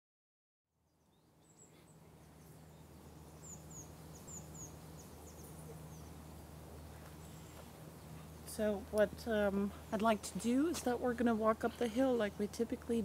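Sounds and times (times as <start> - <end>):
small birds chirping: 0.8 - 13.0
steady low hum: 0.9 - 13.0.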